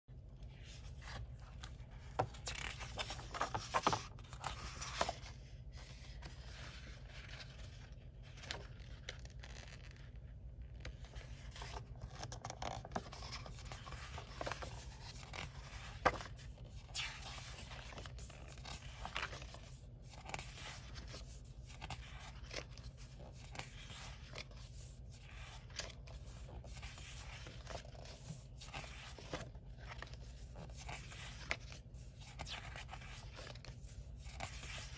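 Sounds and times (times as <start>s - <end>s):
paper pages rustling: 0.2s - 34.9s.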